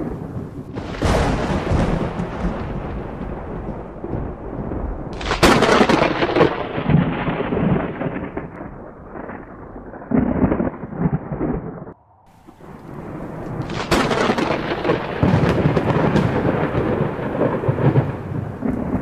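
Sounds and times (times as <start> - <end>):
rolling thunder rumble: 0.0 - 19.0
thunder crack: 0.0 - 19.0.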